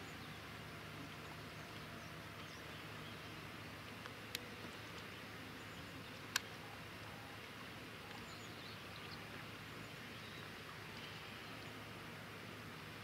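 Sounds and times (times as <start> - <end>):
soft hiss: 0.0 - 13.0.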